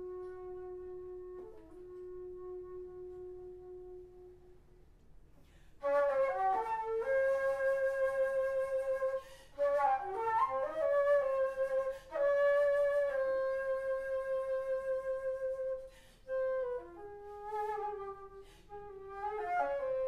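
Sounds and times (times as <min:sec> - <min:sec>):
alto flute playing: 0:00.0 - 0:04.9, 0:05.8 - 0:20.0.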